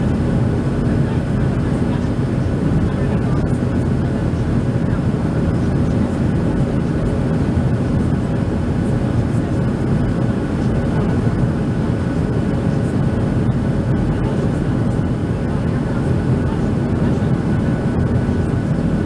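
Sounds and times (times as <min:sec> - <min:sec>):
airplane cabin drone: 0:00.0 - 0:19.0.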